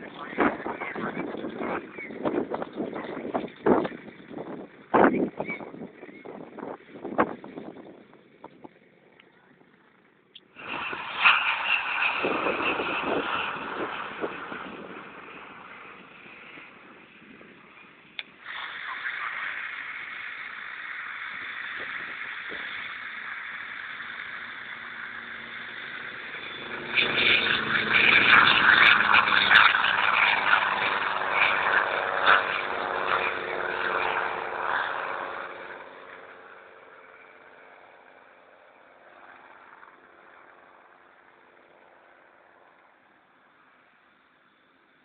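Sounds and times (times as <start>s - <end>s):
helicopter rotor and turbine: 0.0s - 45.0s.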